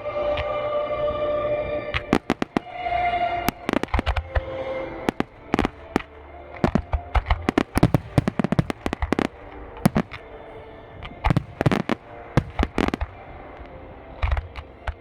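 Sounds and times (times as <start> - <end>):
fireworks bangs: 1.9 - 15.0.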